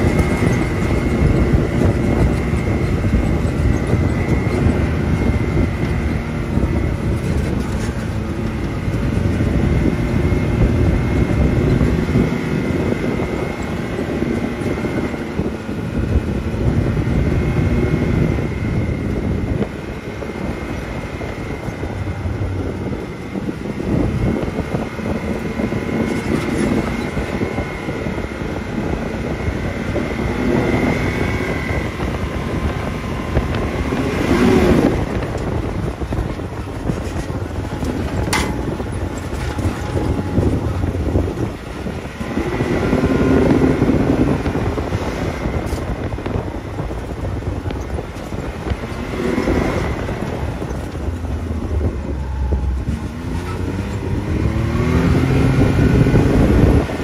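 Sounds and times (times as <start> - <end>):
utv engine rumbling: 0.0 - 57.0.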